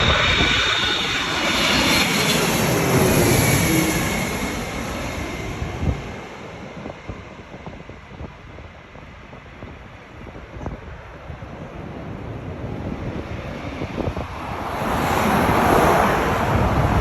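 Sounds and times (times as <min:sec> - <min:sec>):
jet engines running: 0:00.0 - 0:06.9, 0:09.2 - 0:17.0.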